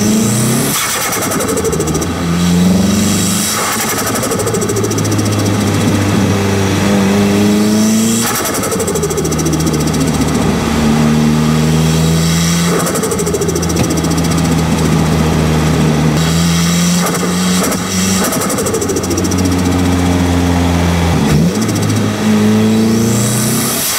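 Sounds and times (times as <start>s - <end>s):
turbo flutter: 0.0s - 20.2s
turbocharged engine revving: 0.0s - 23.9s.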